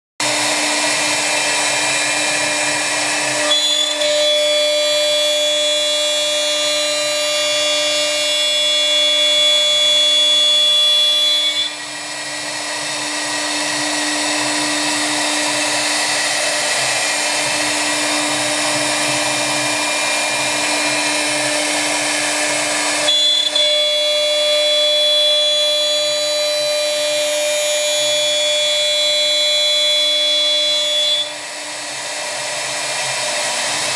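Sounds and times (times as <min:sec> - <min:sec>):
router spindle milling wood: 0:00.2 - 0:33.9.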